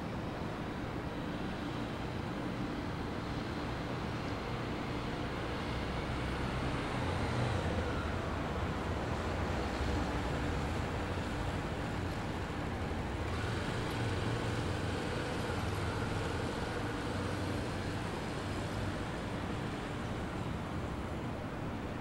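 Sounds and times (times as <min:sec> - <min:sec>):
road traffic hum: 0:00.0 - 0:22.0
engine drone: 0:00.2 - 0:21.9.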